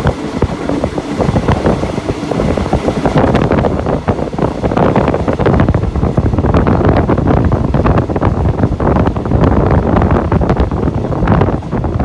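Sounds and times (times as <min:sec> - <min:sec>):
train rumbling: 0:00.0 - 0:12.0
wind noise on microphone: 0:00.0 - 0:12.0.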